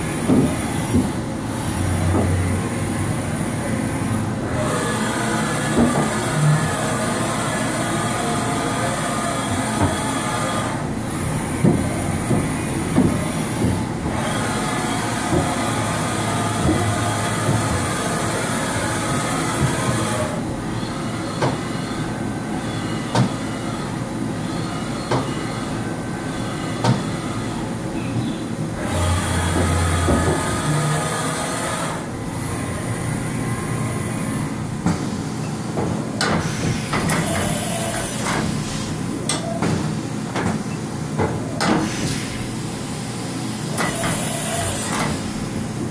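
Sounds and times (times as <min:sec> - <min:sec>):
milling machine running: 0:00.0 - 0:27.9, 0:28.7 - 0:34.9, 0:36.2 - 0:40.2, 0:42.1 - 0:45.8.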